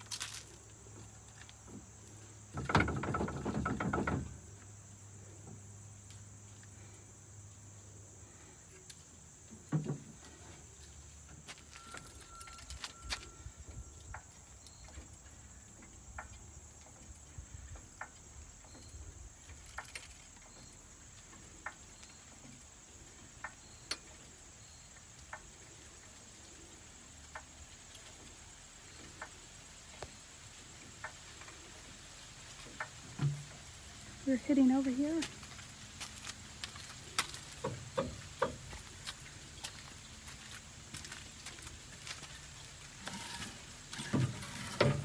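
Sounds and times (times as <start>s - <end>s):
insects droning: 0.0s - 45.0s
faint ticks and knocks: 0.9s - 6.9s, 8.7s - 31.9s, 32.5s - 34.1s, 35.2s - 45.0s.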